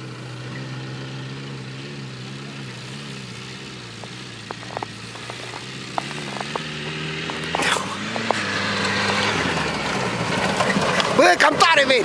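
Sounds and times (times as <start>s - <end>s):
car engine under throttle: 0.0s - 12.0s.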